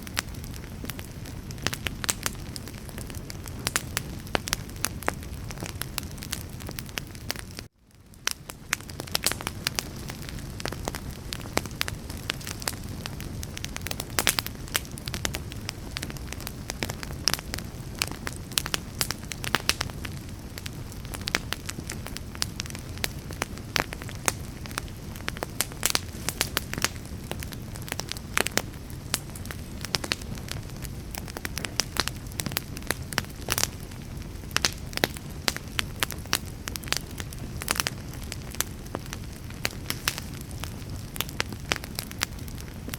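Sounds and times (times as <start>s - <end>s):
low fire rumble: 0.0s - 42.9s
wood fire crackling and popping: 0.0s - 42.9s.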